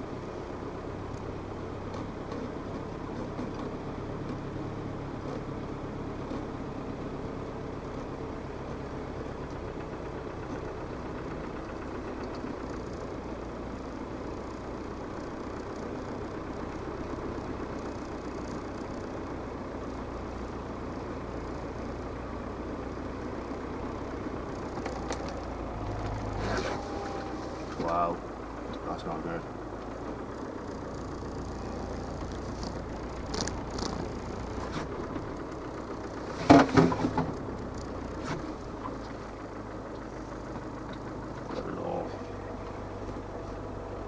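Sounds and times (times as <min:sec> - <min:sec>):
diesel engine at low revs: 0:00.0 - 0:44.0.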